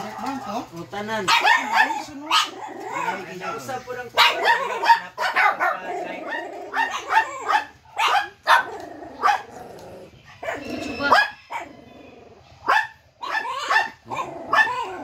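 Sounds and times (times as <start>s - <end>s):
small dogs barking: 0.0s - 15.0s.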